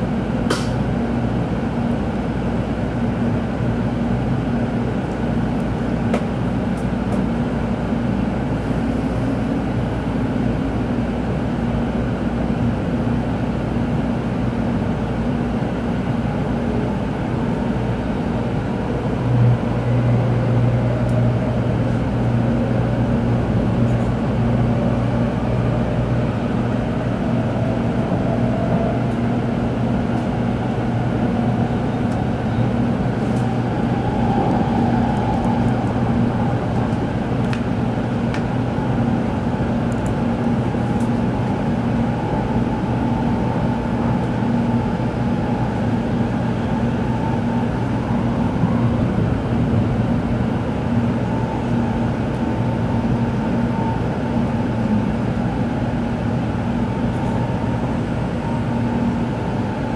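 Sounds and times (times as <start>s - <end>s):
train interior low hum: 0.0s - 59.9s.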